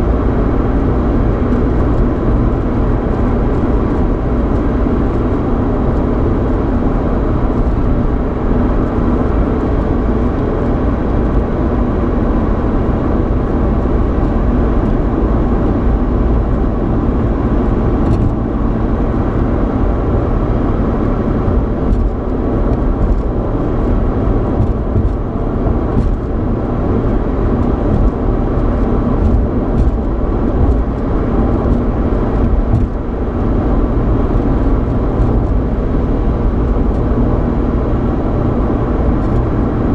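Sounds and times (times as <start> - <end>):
car cabin road noise and engine hum: 0.0 - 39.9.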